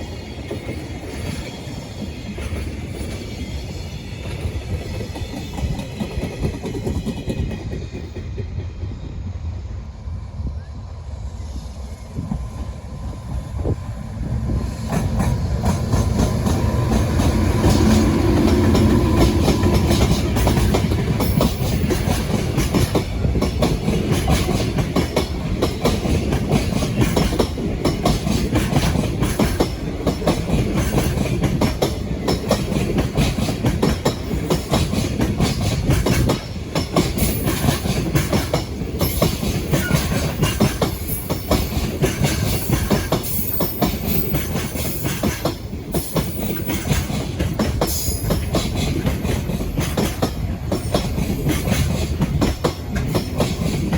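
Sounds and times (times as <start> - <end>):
train wheels clattering over rails: 0.0 - 9.3, 13.4 - 53.9
train hum: 0.0 - 53.9.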